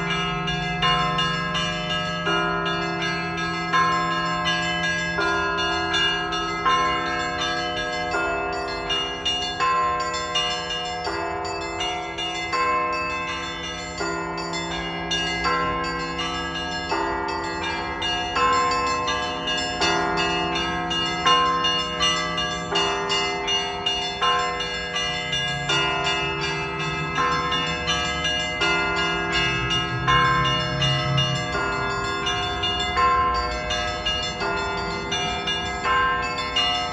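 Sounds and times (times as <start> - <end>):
deep hum of a big bell: 0.0 - 36.9
larger bells ringing: 0.0 - 36.9
small bells ringing rapidly: 0.0 - 36.9.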